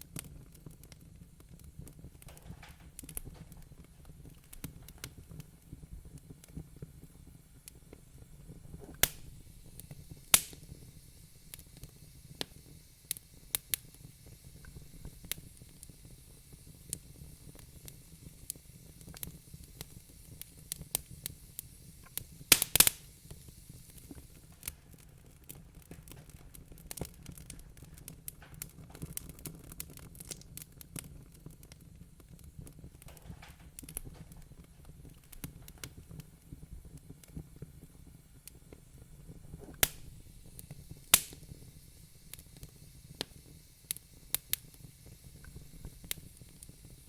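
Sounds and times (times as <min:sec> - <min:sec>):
low rumble of flames: 0:00.0 - 0:47.0
wood fire crackling and popping: 0:00.0 - 0:47.0.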